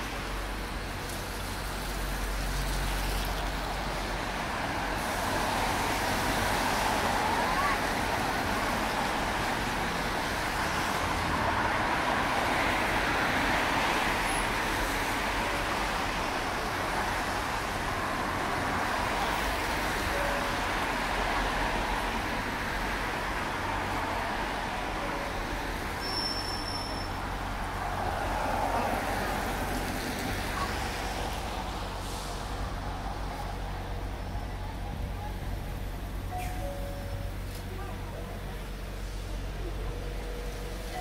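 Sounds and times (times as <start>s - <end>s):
traffic passing on wet road: 0.0s - 41.0s.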